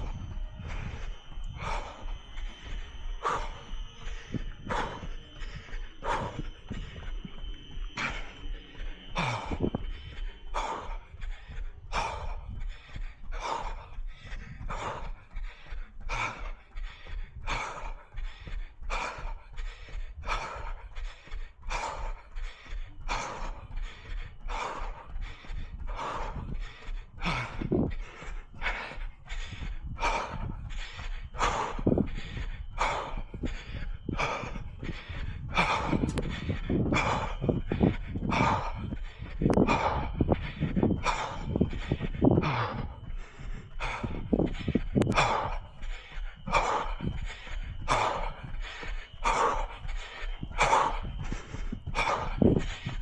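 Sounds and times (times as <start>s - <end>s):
runner breathing hard: 0.0s - 53.0s.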